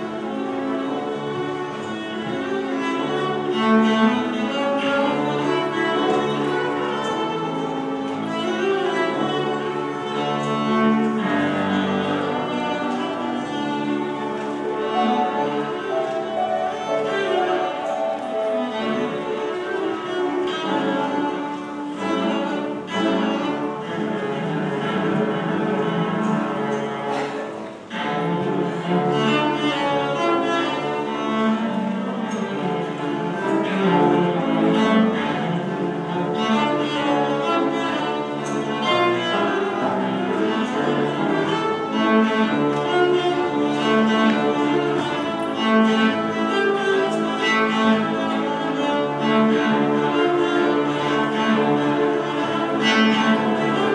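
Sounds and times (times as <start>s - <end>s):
bowed cello melody: 0.0s - 53.9s.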